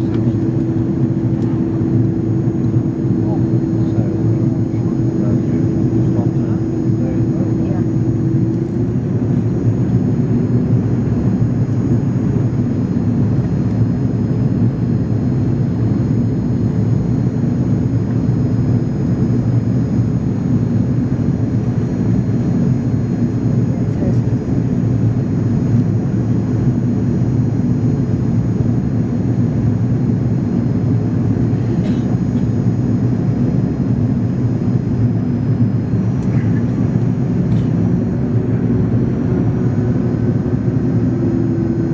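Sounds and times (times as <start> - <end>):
faint high jet whine: 0.0 - 41.9
jet airliner rumble: 0.0 - 41.9.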